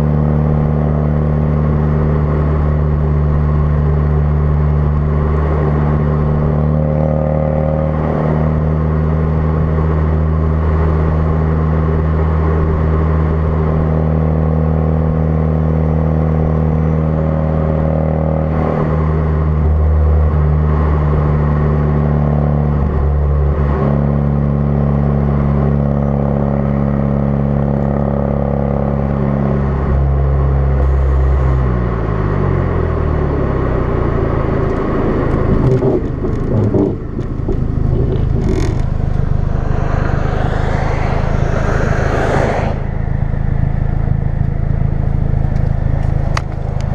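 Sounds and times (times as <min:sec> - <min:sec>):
car engine exhaust note: 0:00.0 - 0:46.9.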